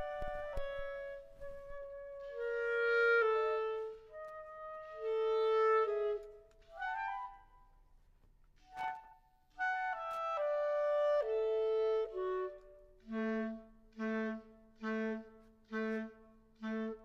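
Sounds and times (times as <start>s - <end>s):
woodwind duo with clarinet: 0.0s - 17.0s.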